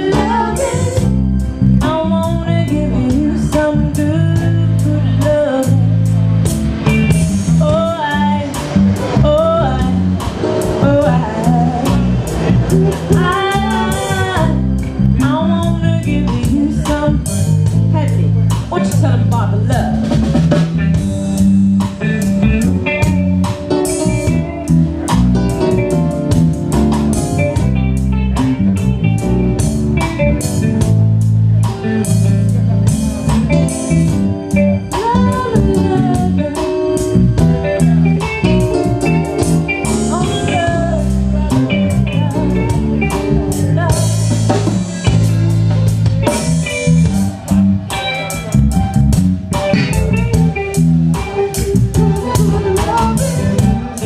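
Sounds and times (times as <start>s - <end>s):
lead electric guitar bent notes: 0.0s - 54.0s
reggae band playing: 0.0s - 54.0s.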